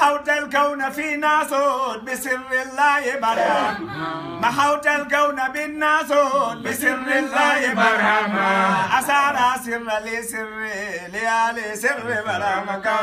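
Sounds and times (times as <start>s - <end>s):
men chanting devotional song: 0.0s - 13.0s.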